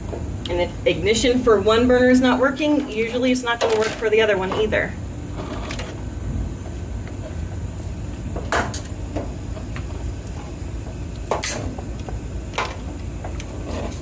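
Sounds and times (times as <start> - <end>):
gas grill burners rumbling: 0.0 - 14.0.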